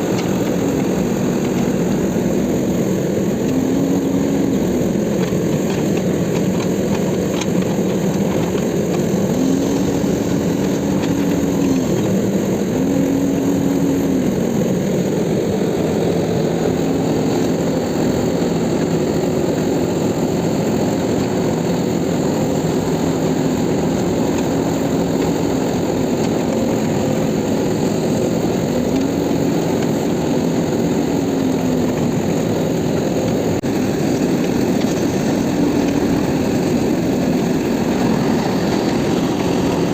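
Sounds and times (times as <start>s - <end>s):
concrete mixer diesel engine running: 0.0s - 39.9s.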